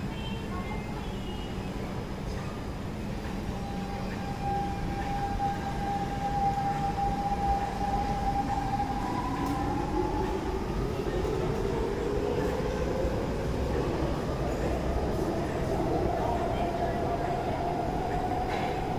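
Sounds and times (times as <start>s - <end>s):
train carriage rumble: 0.0s - 18.9s.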